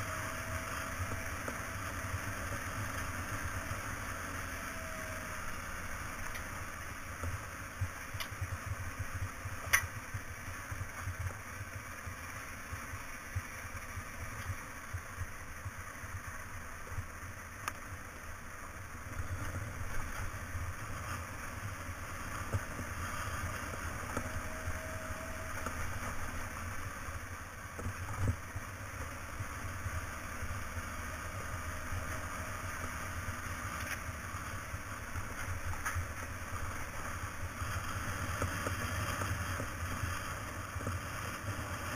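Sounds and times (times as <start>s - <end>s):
motorcycle engine rumble: 0.0s - 41.9s.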